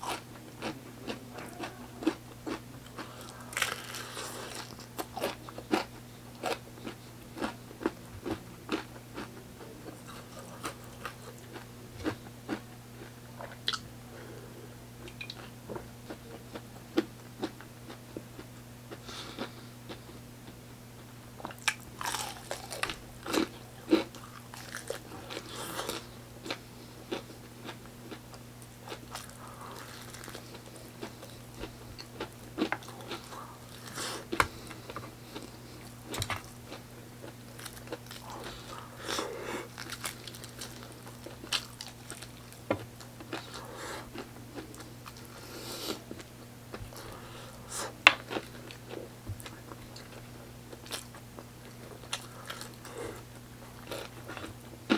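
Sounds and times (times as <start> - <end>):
chewing crispy chicken: 0.0 - 13.9, 15.0 - 54.9.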